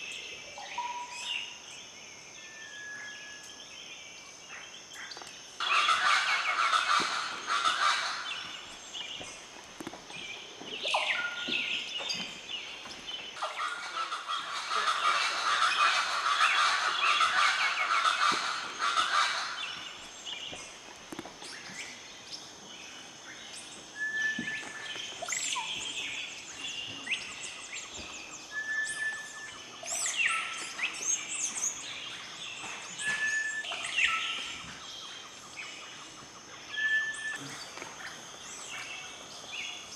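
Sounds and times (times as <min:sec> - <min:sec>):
birds chattering twitters: 0:04.9 - 0:39.9.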